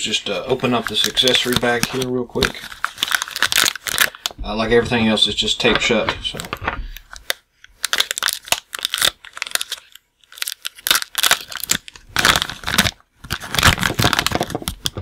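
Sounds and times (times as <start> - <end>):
plastic bag crinkling and tearing: 0.0 - 15.0.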